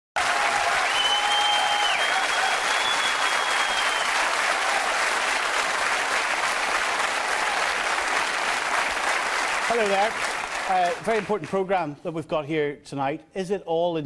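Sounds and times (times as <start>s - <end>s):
audience applauding: 0.2s - 11.8s.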